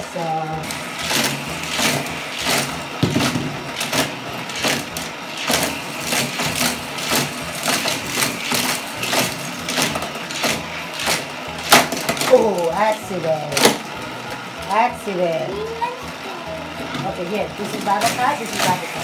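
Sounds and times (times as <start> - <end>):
toy cars clattering on plastic track: 0.0 - 16.0, 16.8 - 19.0
toy booster motor humming: 0.0 - 19.0.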